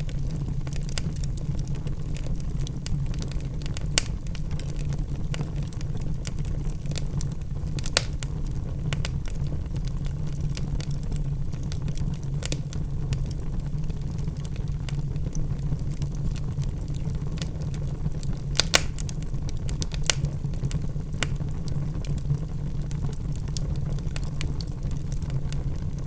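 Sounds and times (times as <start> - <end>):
log fire burning: 0.0 - 26.0
wood crackling and popping: 0.0 - 26.0.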